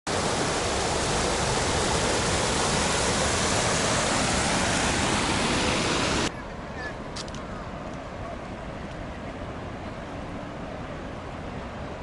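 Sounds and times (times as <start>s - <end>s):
river water rushing over weir: 0.1s - 12.0s.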